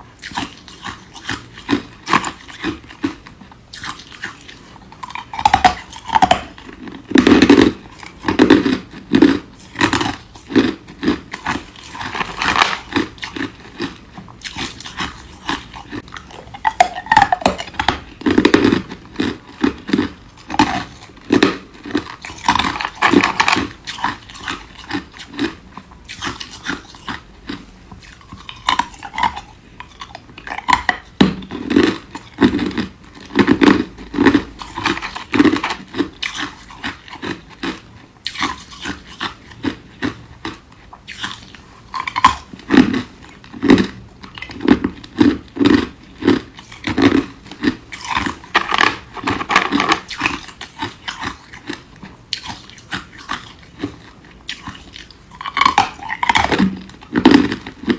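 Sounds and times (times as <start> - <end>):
person crunching ice cubes: 0.2 - 57.9.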